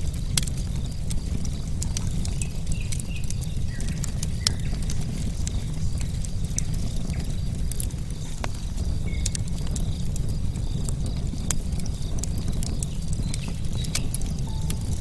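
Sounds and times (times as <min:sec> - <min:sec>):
campfire crackling: 0:00.0 - 0:15.0
crickets chirping: 0:00.0 - 0:15.0.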